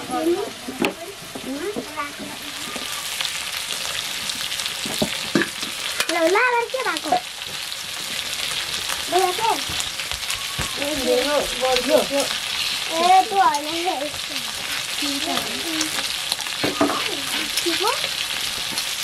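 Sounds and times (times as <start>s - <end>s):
chicken sizzling in wok: 0.0s - 19.0s.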